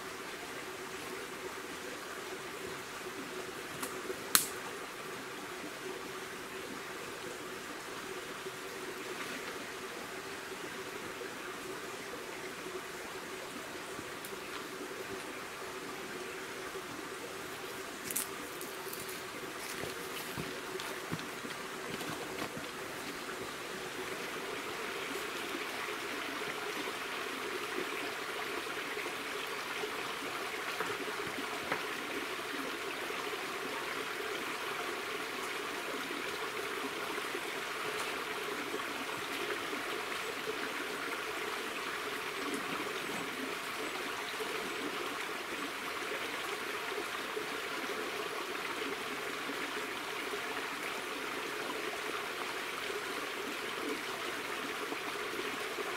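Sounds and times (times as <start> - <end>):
stream running over rocks: 0.0 - 55.9.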